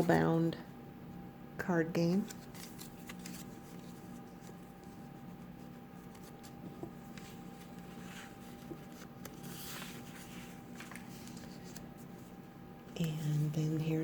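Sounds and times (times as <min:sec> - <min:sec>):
faint hum: 0:00.0 - 0:14.0
paper pages rustling: 0:02.1 - 0:14.0.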